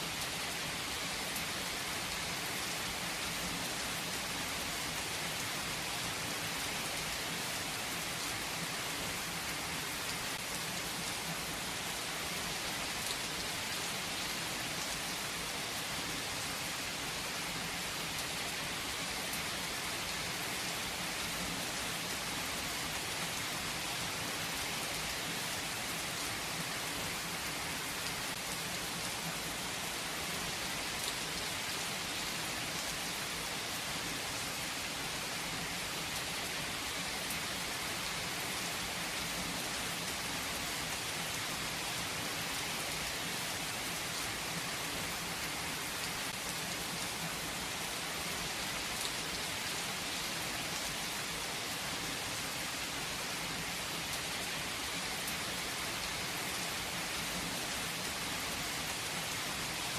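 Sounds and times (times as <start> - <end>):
rain hiss: 0.0 - 59.9
raindrops: 0.1 - 59.9.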